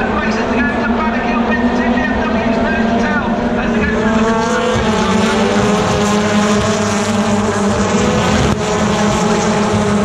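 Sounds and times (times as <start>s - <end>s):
racing car engines: 0.0s - 10.0s.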